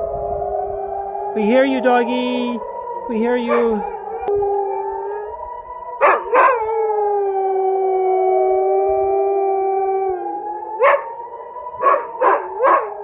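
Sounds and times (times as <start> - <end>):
air raid siren wailing: 0.0 - 13.0
dog howling: 2.5 - 13.0.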